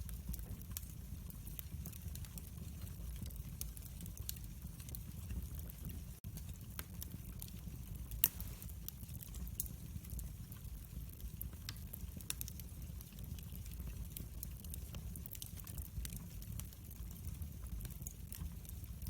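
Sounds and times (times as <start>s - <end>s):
fire crackling and popping: 0.0s - 19.0s
fire flame rumble: 0.0s - 19.0s.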